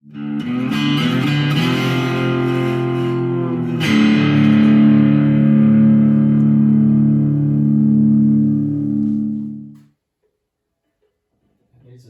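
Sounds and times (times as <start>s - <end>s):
guitar chords ringing: 0.0s - 9.8s.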